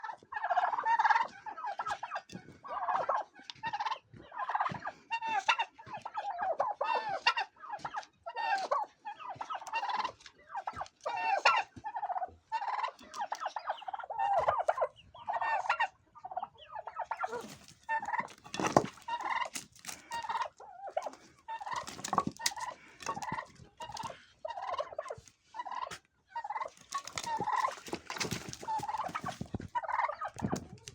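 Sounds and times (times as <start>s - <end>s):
turkey gobbling: 0.0s - 30.9s.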